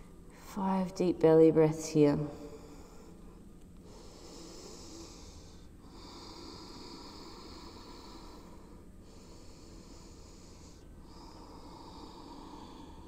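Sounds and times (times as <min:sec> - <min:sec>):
woman breathing deeply: 0:02.3 - 0:13.0.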